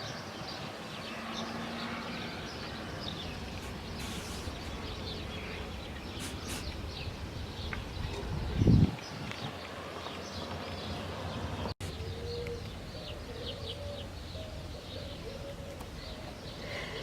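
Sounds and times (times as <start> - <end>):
swallows twittering: 0.0 - 17.0.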